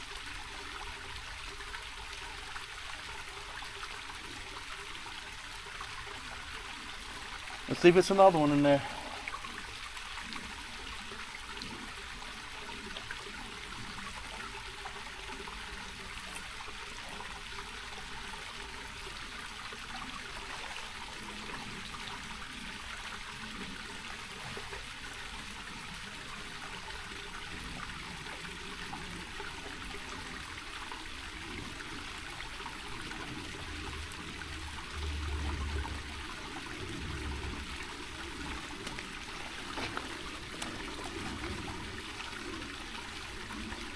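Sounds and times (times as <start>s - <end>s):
water trickling over rocks: 0.0s - 43.9s.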